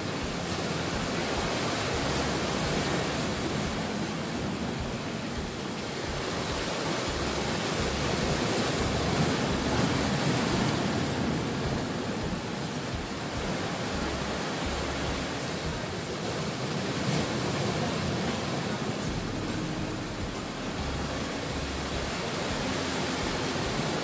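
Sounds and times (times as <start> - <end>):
sea surf washing on shore: 0.0 - 24.0.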